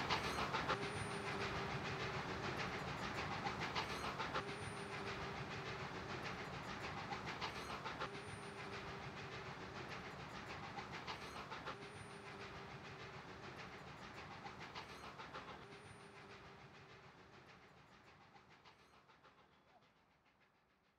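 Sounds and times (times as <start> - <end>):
train wheels clicking over rail joints: 0.0 - 19.2.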